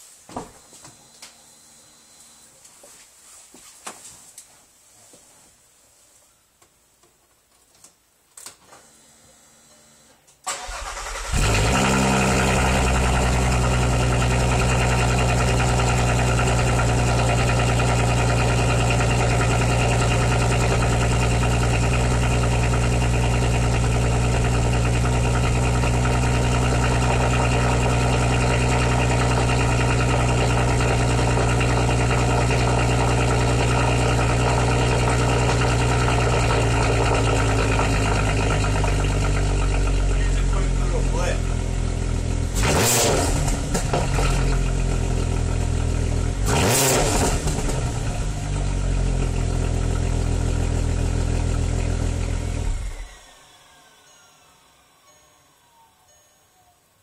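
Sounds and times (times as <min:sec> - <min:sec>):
car engine cold start: 0:10.4 - 0:56.7
car engine fast idle: 0:10.4 - 0:56.7.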